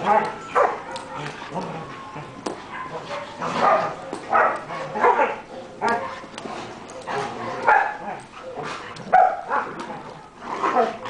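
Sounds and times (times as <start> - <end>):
dogs barking: 0.0 - 2.0, 2.6 - 11.0.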